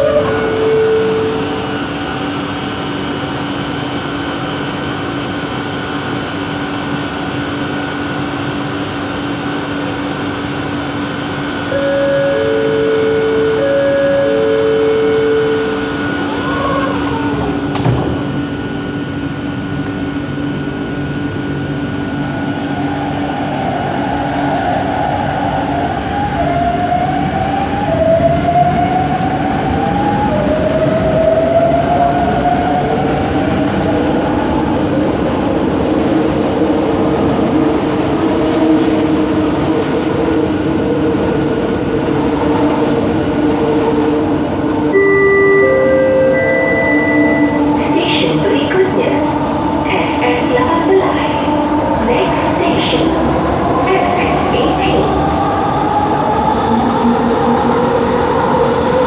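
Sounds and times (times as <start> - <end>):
rumble of train car: 0.0 - 59.0.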